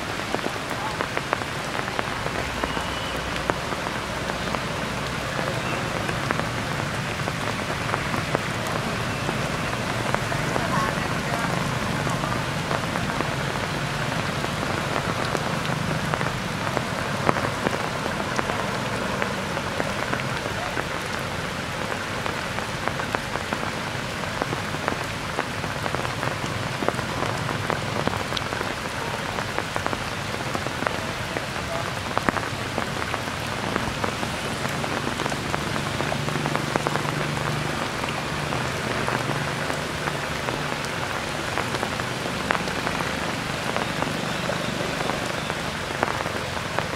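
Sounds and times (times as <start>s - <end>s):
rain on tree foliage: 0.0s - 46.9s
water drips ticking: 0.1s - 46.9s.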